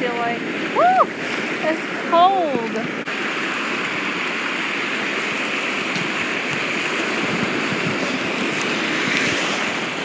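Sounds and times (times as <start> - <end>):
ocean surf breaking waves: 0.0 - 10.0.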